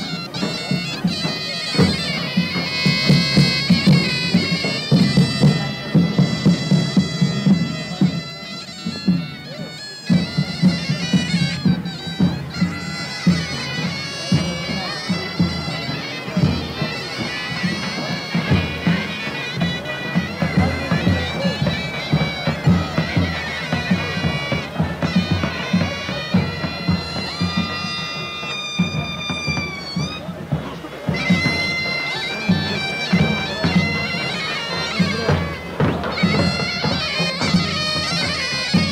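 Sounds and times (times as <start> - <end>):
shrill reed wind instrument: 0.0 - 38.9
steady drum beats: 0.0 - 38.9.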